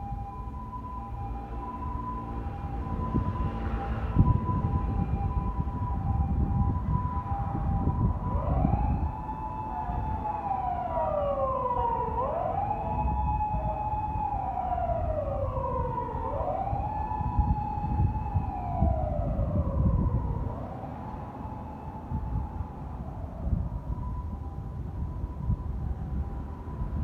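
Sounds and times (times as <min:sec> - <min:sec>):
siren wailing: 0:00.0 - 0:27.0.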